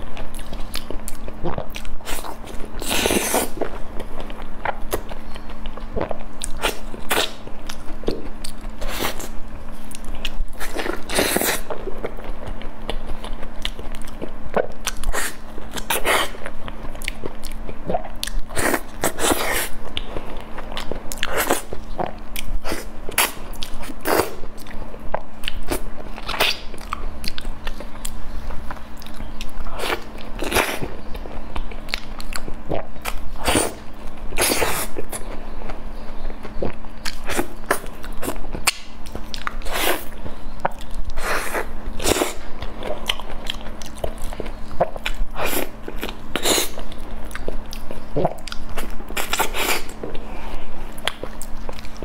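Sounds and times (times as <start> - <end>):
wet chewing and smacking: 0.0 - 52.0.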